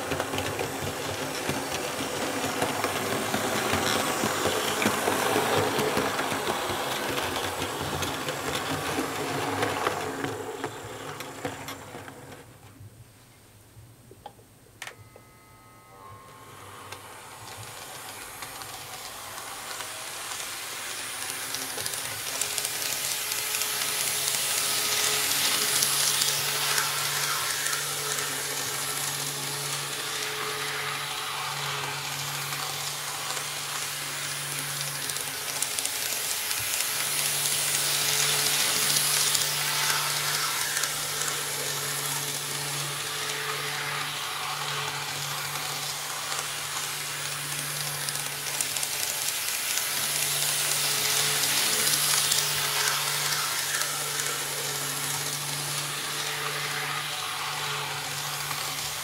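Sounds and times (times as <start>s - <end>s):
model train wheels rolling: 0.0s - 12.9s, 16.2s - 59.0s.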